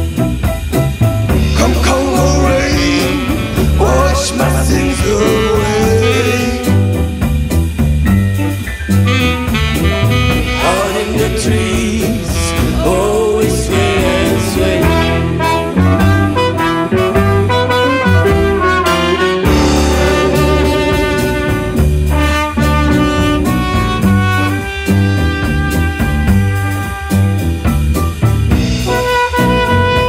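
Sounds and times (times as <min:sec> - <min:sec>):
bass: 0:00.0 - 0:30.0
drum beat: 0:00.0 - 0:30.0
saxophone and brass lines: 0:01.3 - 0:07.8, 0:09.0 - 0:30.0.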